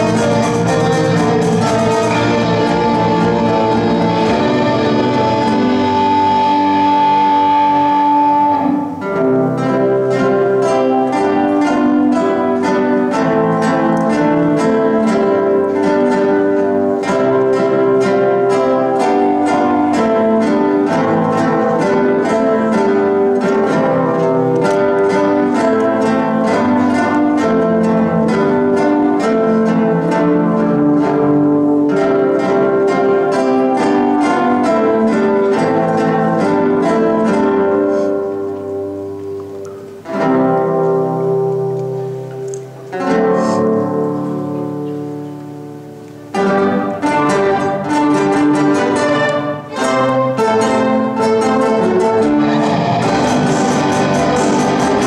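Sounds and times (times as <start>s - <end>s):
classical guitars playing: 0.0s - 55.0s.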